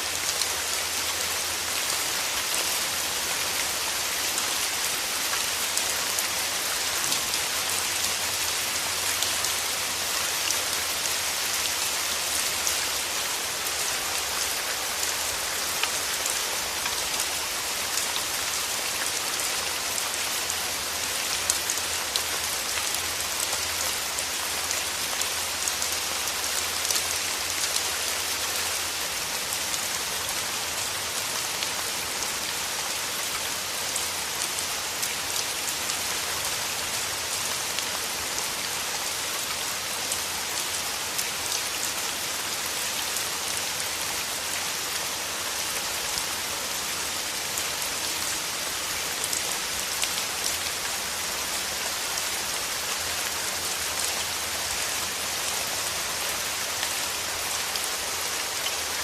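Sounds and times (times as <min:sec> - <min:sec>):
rain on leaves: 0:00.0 - 0:59.0.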